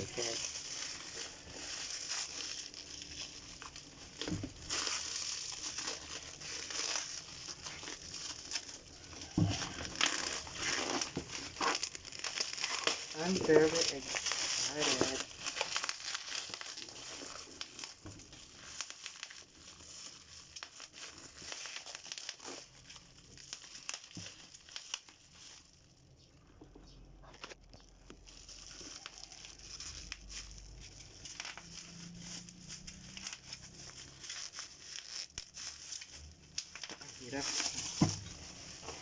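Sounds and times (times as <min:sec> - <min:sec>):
packaging crinkling and tearing: 0:00.0 - 0:26.3, 0:27.2 - 0:39.0.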